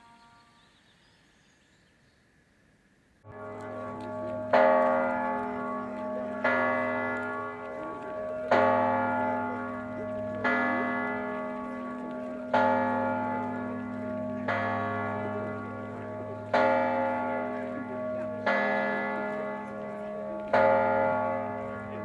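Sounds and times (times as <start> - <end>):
large bell tolling: 3.3 - 22.0.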